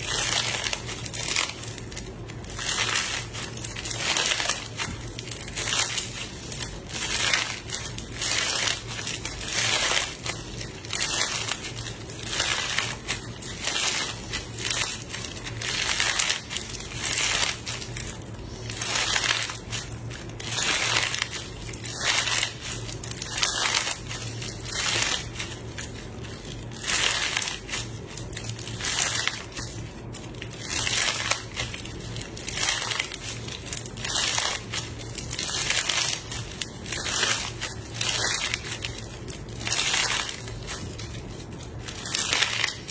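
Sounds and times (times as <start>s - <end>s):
crunchy slime crackling: 0.0s - 42.9s.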